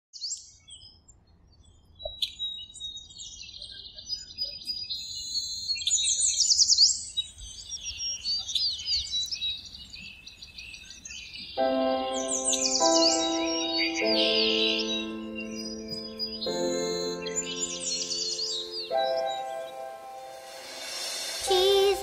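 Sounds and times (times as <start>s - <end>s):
birds chirping and singing: 1.6s - 22.0s.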